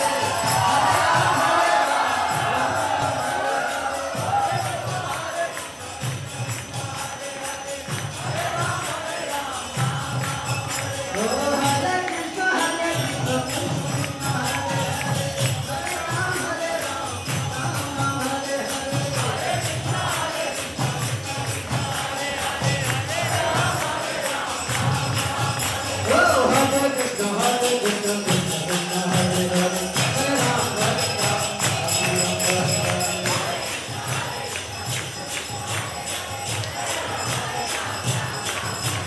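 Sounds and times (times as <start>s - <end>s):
group singing a chant: 0.0s - 39.0s
hand cymbals jingling: 0.0s - 39.0s.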